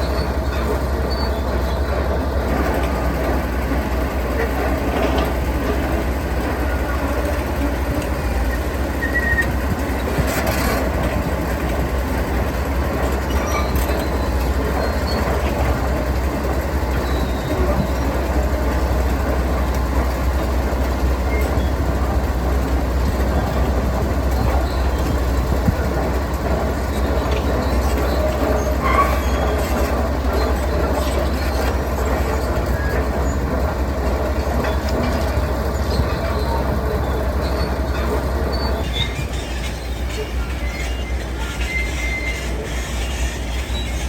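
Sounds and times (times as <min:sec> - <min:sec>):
diesel construction machinery running: 0:00.0 - 0:44.0.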